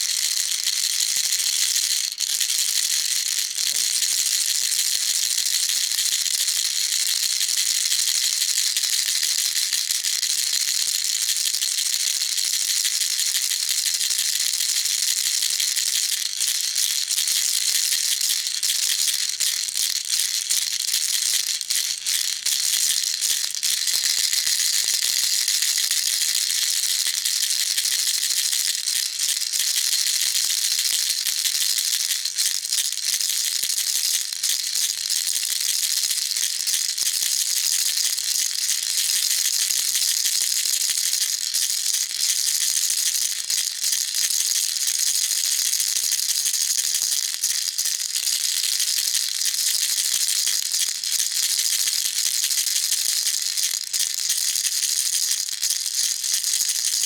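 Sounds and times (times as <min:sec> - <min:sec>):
baby rattle shaking: 0:00.1 - 0:06.0, 0:15.7 - 0:57.0.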